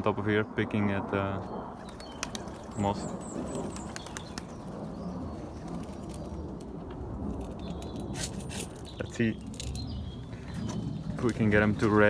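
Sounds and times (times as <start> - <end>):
pigeons cooing softly: 0.2 - 12.0.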